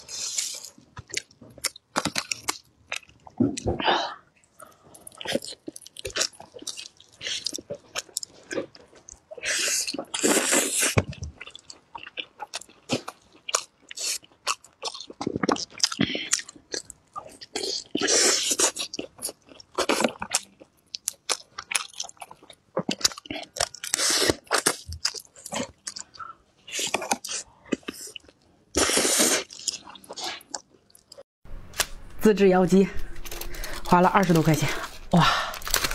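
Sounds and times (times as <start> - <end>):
person chewing food: 0.0 - 31.2, 34.7 - 35.9.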